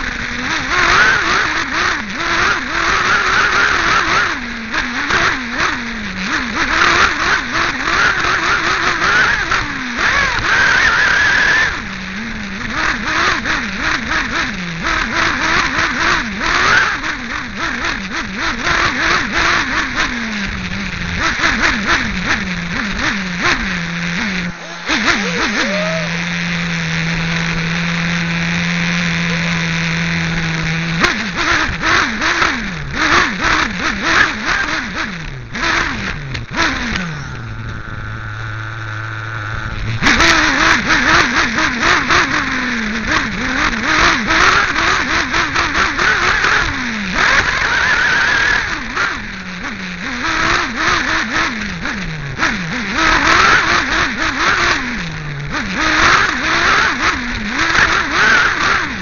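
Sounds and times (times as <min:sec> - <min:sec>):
model car engine revving: 0:00.0 - 0:59.0.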